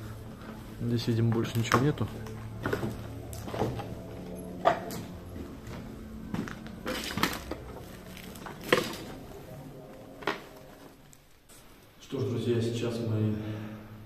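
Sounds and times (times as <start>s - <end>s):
footsteps crunching over rubble: 0.1s - 11.6s.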